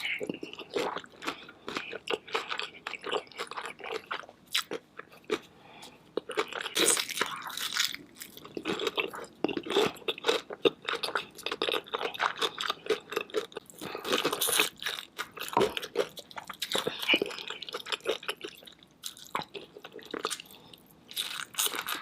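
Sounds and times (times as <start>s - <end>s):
crunchy food chewing: 0.0s - 5.5s, 6.2s - 22.0s.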